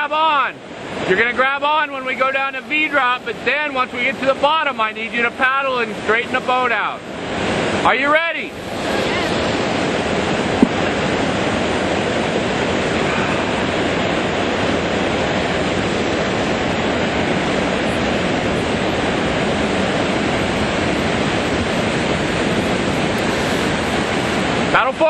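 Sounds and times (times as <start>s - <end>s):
whitewater rushing over rocks: 0.0s - 25.0s.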